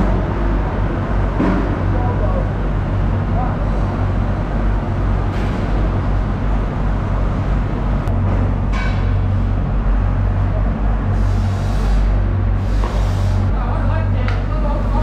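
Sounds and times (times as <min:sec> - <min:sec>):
low machine hum: 0:00.0 - 0:15.0
market hall noise: 0:00.0 - 0:15.0.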